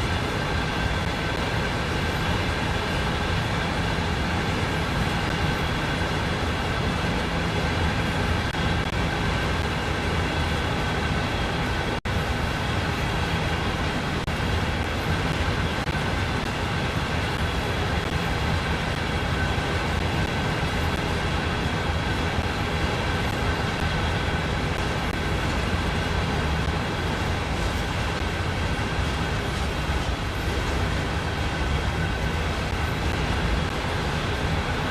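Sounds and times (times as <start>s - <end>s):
freight train rumbling: 0.0s - 34.9s.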